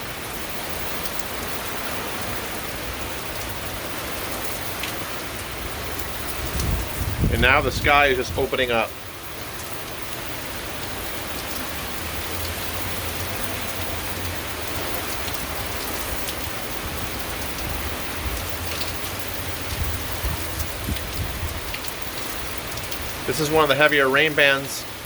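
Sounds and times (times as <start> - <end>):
heavy rain pouring: 0.0 - 25.0
rain spatters: 0.0 - 25.0.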